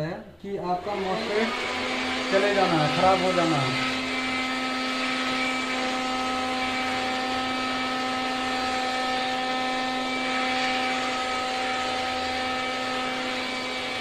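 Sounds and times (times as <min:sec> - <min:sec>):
electric fan running: 0:00.4 - 0:14.0.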